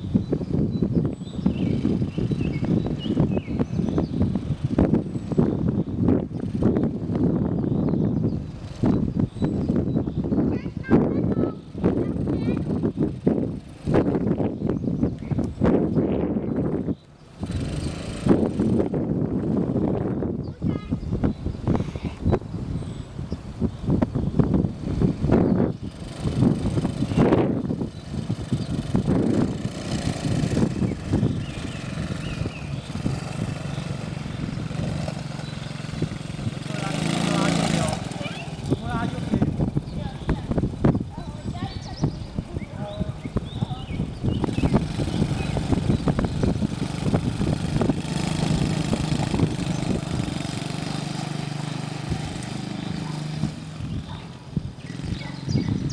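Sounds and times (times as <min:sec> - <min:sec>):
quad bike engine running: 0:00.0 - 0:23.0, 0:23.6 - 0:55.9.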